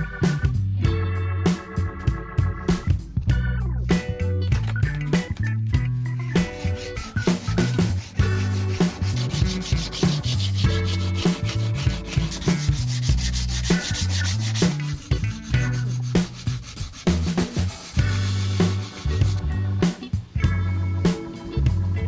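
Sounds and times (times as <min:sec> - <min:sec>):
electronic music with beat and bass: 0:00.0 - 0:22.0.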